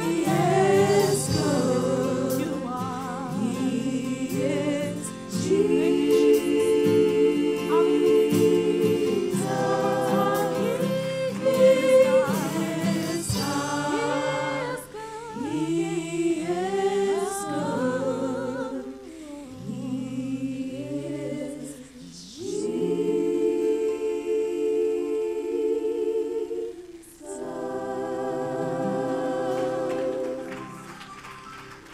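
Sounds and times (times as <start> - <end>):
woman singing gospel: 0.0 - 30.7.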